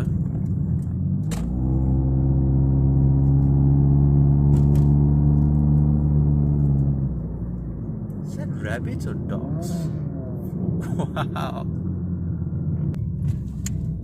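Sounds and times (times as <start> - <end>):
car engine drone inside cabin: 0.0 - 14.0.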